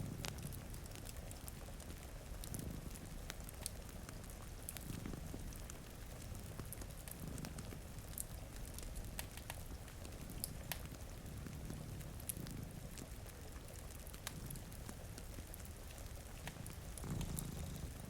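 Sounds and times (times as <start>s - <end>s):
cats purring: 0.0s - 18.0s
steady rain: 0.0s - 18.0s
wood fire crackling and popping: 0.0s - 18.0s.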